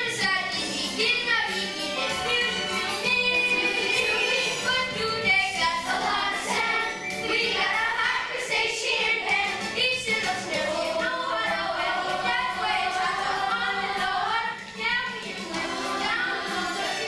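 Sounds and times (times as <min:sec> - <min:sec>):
children's chorus singing: 0:00.0 - 0:17.0
musical accompaniment: 0:00.0 - 0:17.0.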